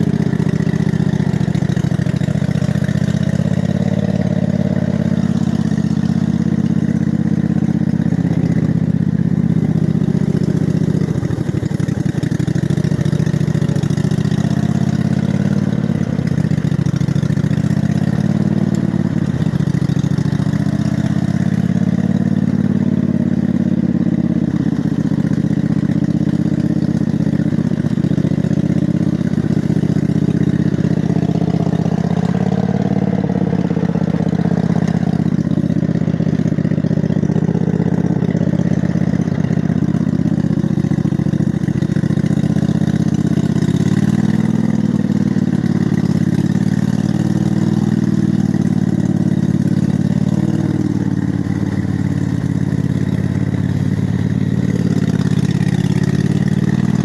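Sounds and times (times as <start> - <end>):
riding mower engine running: 0.0 - 57.0.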